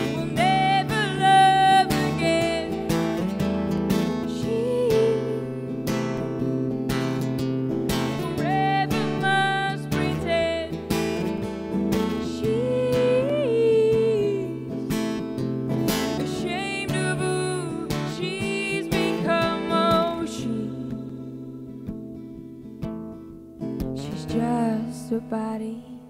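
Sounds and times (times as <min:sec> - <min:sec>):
woman singing: 0:00.0 - 0:06.3, 0:08.0 - 0:21.6, 0:23.9 - 0:26.0
strummed acoustic guitar: 0:00.0 - 0:26.0.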